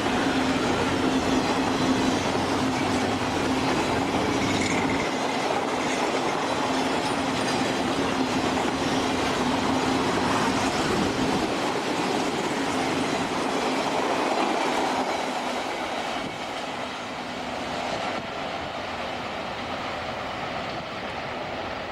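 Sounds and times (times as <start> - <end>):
railroad cars rolling past: 0.0 - 21.9.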